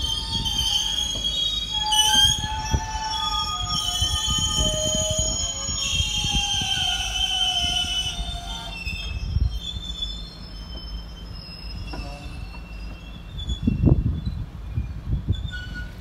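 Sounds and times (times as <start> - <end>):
low train rumble: 0.0 - 16.0
train wheels squealing: 0.0 - 16.0.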